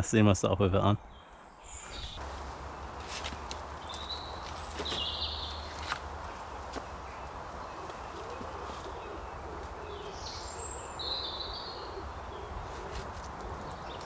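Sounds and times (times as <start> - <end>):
faint low bird calls: 1.0 - 14.0.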